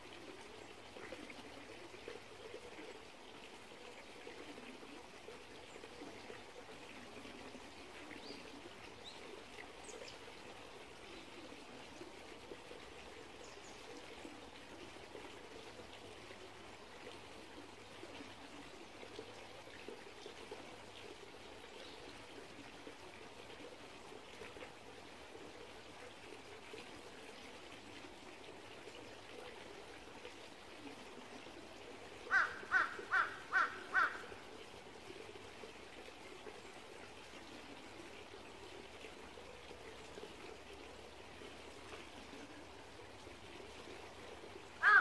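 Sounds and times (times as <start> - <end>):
stream trickling over stones: 0.0 - 45.0.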